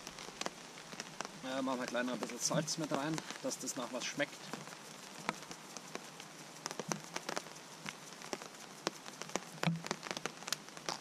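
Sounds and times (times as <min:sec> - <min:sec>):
raindrops tapping on tarp: 0:00.0 - 0:11.0
steady rain falling: 0:00.0 - 0:11.0.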